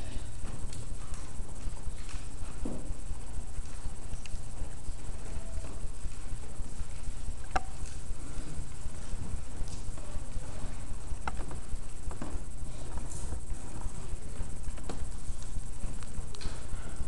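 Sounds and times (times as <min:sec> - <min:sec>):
soft knocks and shuffles: 0:00.0 - 0:17.0
steady low rumble: 0:00.0 - 0:17.0.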